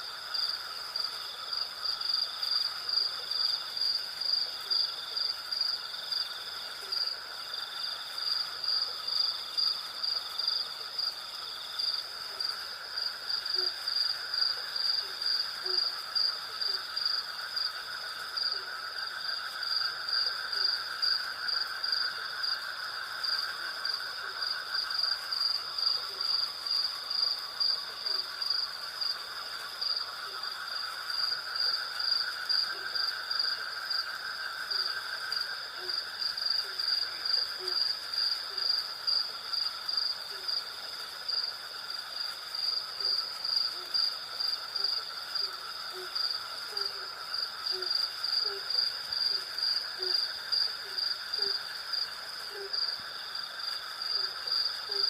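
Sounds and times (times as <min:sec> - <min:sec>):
insects buzzing drones: 0:00.0 - 0:55.0
insects pulsing trill: 0:00.0 - 0:55.0.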